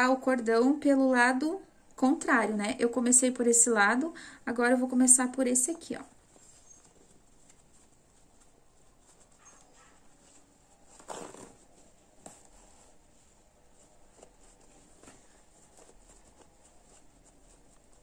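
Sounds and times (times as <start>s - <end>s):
fabric and cord rustling: 0.0s - 18.0s.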